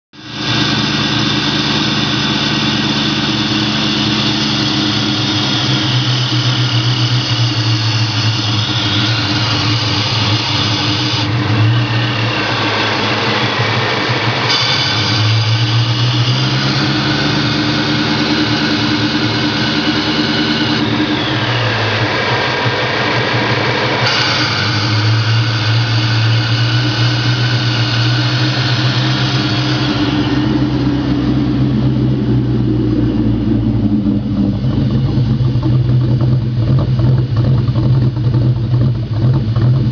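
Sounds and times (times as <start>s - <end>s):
car engine idling unevenly: 0.2s - 39.9s.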